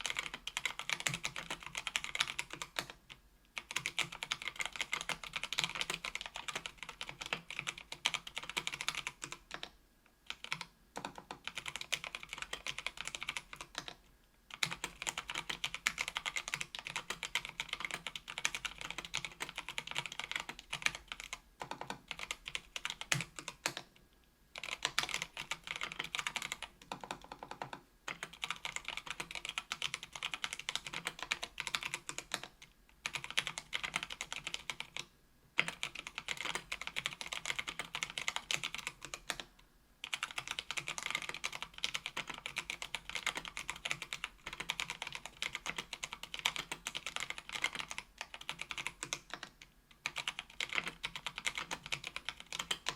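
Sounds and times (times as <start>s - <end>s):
fast typing on keyboard: 0.0s - 23.9s, 24.6s - 52.9s.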